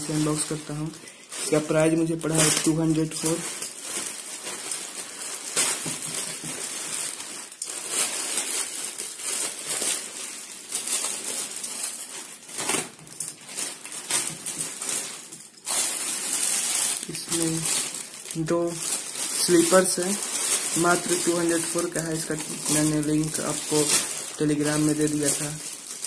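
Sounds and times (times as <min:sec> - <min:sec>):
plastic packet rustling: 0:00.0 - 0:26.0
plastic mailer tearing: 0:01.4 - 0:26.0.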